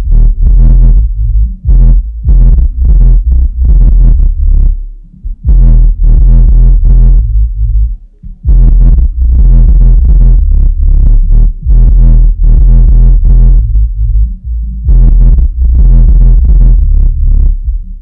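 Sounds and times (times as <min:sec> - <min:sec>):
deep pulsing bass music: 0:00.0 - 0:18.0.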